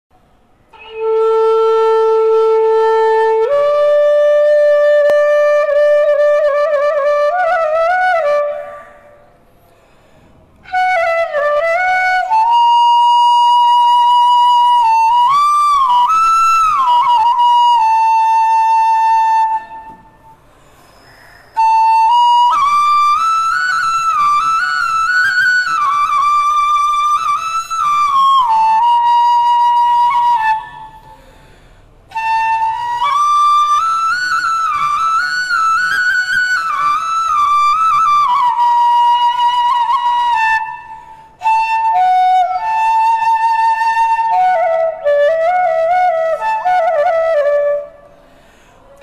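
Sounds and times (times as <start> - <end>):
bamboo flute solo: 0.5 - 9.5, 10.6 - 49.0.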